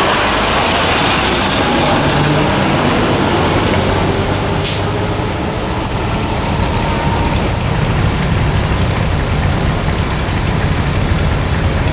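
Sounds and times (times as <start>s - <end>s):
truck engine deep rumble: 0.0s - 11.9s.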